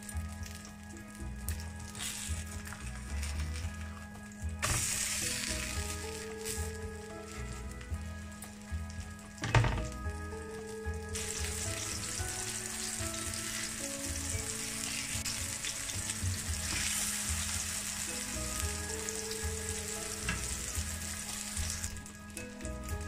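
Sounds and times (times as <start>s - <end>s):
patties sizzling in oil: 0.0s - 23.0s.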